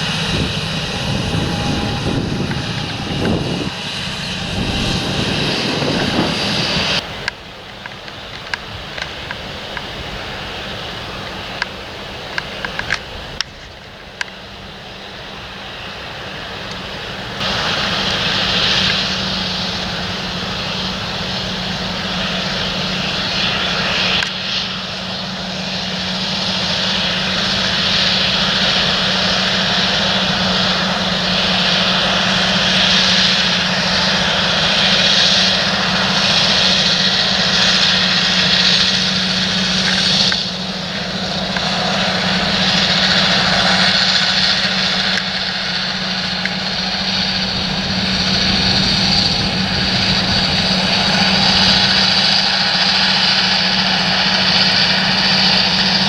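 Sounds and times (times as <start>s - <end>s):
tractor diesel engine under load: 0.0s - 7.7s, 16.4s - 56.0s.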